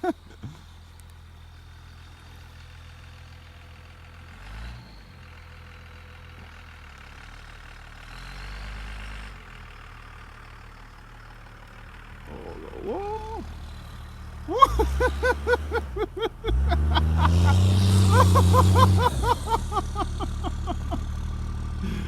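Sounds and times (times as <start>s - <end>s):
vehicle engine running: 0.1s - 22.0s.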